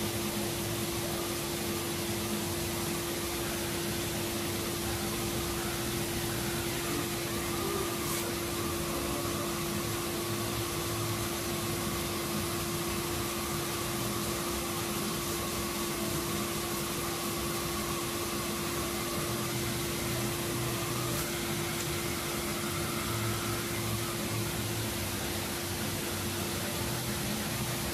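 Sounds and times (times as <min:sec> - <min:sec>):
air machine hissing and humming: 0:00.0 - 0:27.9.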